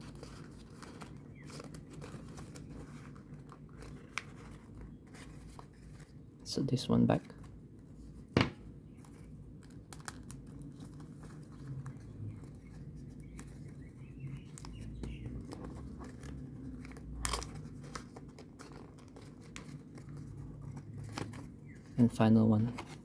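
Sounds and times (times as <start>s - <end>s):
paper rustling and crinkling: 0.0s - 23.0s.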